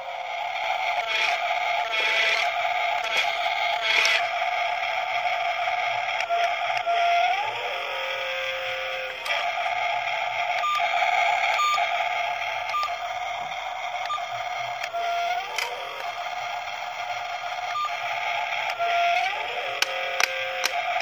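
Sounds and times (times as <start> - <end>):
toy electric motors whining: 0.0 - 21.0.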